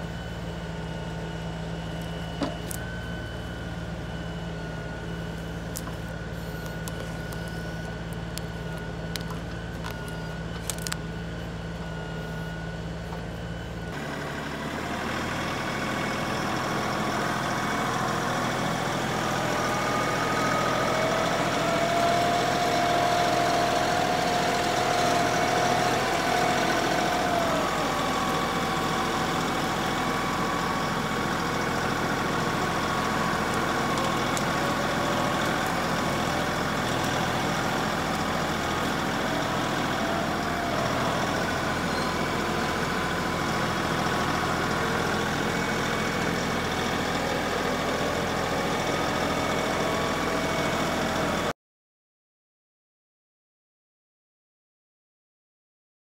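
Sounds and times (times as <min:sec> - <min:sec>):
tractor diesel engine running: 0:00.0 - 0:51.5.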